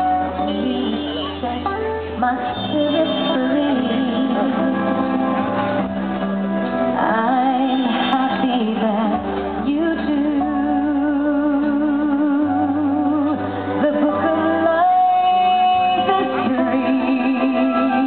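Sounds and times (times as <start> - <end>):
woman singing with vibrato: 0.0 - 5.6, 6.9 - 18.0
strings: 0.0 - 18.0.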